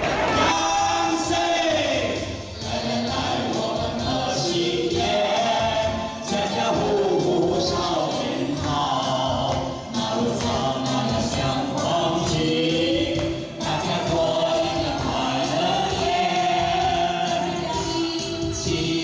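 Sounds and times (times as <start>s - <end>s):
musical accompaniment: 0.0s - 19.0s
several voices singing: 0.0s - 19.0s.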